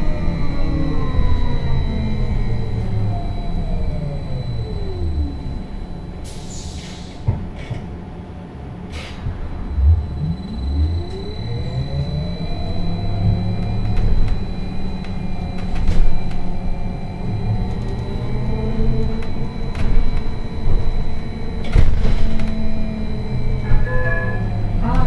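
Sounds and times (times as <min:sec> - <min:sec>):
electric motor whine: 0:00.0 - 0:06.0, 0:09.6 - 0:25.0.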